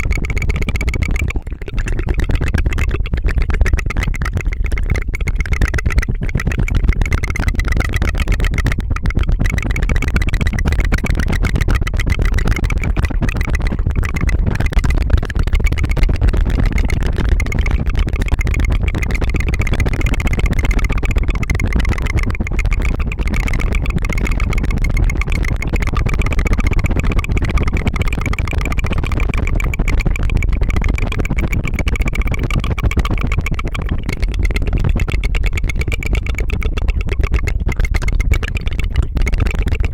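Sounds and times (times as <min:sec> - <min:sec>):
rolled tongue trill: 0:00.0 - 0:39.9.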